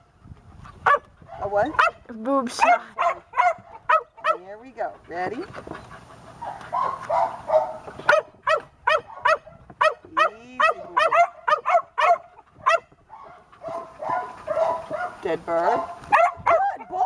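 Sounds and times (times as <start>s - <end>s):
dog yipping: 0.8s - 2.0s, 2.6s - 4.5s, 6.4s - 17.0s.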